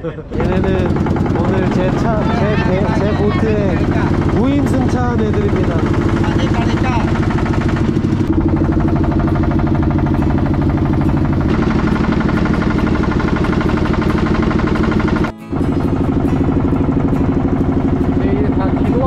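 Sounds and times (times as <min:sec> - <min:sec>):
boat engine chugging: 0:00.2 - 0:19.0.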